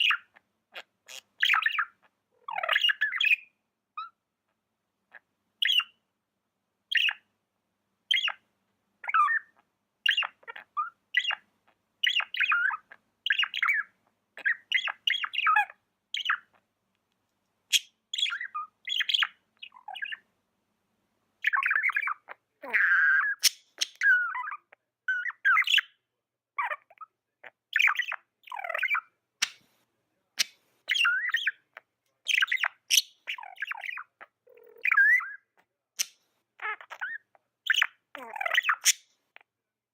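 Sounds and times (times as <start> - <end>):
budgerigar chirping: 0.0 - 4.2, 5.1 - 6.0, 6.9 - 7.3, 8.1 - 8.4, 9.0 - 16.6, 17.7 - 20.2, 21.4 - 26.0, 26.6 - 29.6, 30.4 - 39.6.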